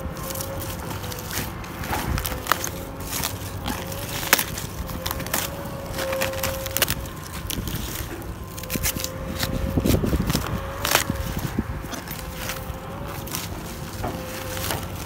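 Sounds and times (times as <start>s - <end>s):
cabbage leaves tearing and snapping: 0.0s - 15.0s.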